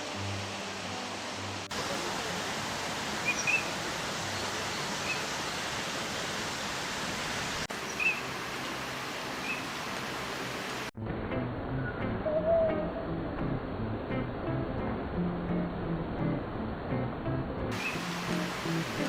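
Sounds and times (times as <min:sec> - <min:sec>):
steady rushing outdoor noise: 0:00.0 - 0:19.0.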